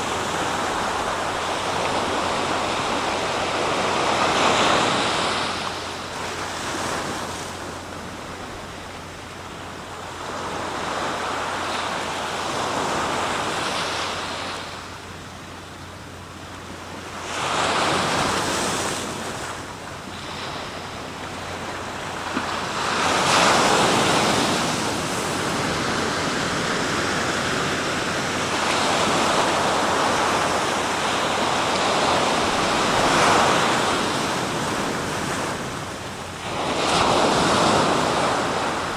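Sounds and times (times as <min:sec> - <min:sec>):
surf breaking on shore: 0:00.0 - 0:15.3, 0:16.4 - 0:38.9.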